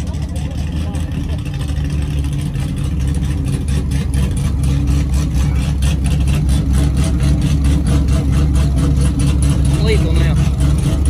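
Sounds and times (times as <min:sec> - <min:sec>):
truck engine idling choppily: 0:00.0 - 0:11.0.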